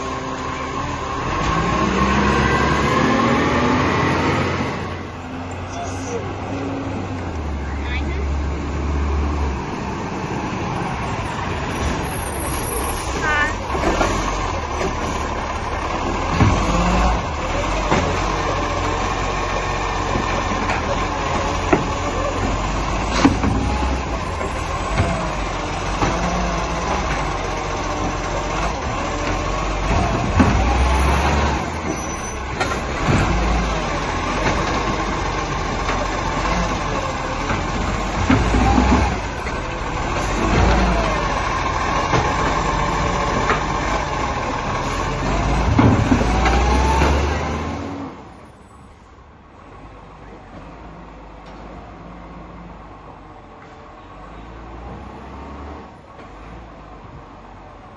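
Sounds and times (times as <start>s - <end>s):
garbage truck engine surging: 0.0s - 53.5s.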